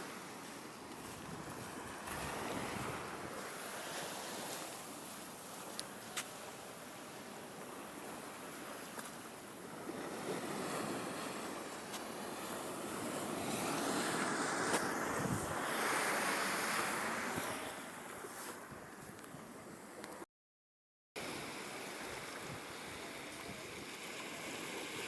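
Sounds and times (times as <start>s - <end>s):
ocean waves washing ashore: 0.0s - 20.2s, 21.2s - 25.0s.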